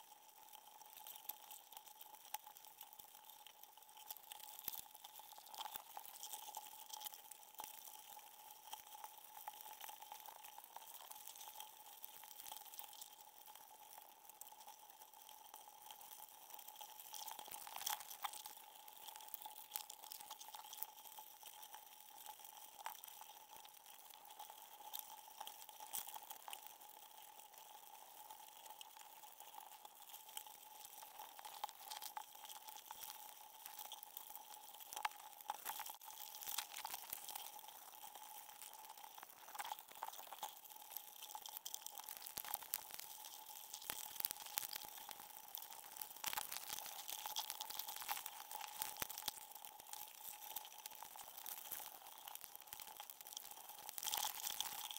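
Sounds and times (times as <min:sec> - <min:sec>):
small clicks and crackles: 0:00.0 - 0:54.9.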